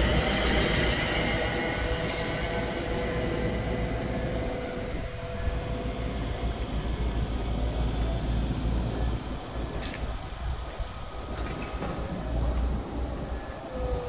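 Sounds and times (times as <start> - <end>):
electric train motor whine: 0.0 - 14.0.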